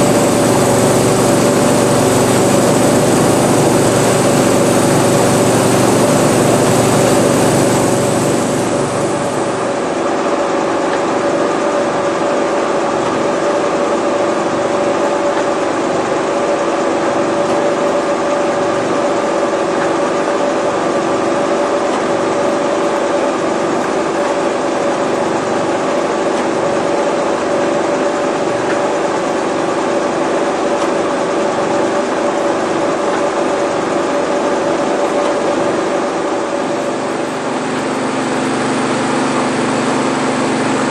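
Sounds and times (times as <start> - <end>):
combine harvester hum: 0.0 - 40.9
steady high whine: 0.0 - 40.9.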